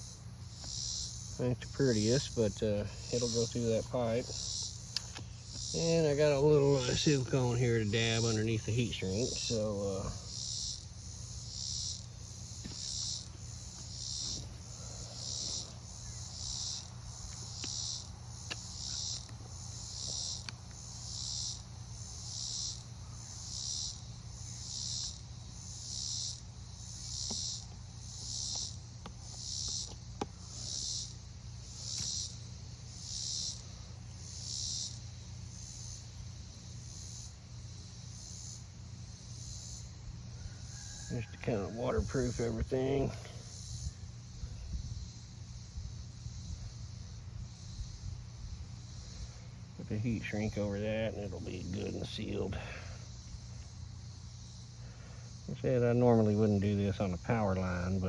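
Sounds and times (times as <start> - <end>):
insect calling in high pulses: 0.0 - 58.0
steady low hum: 0.0 - 58.0.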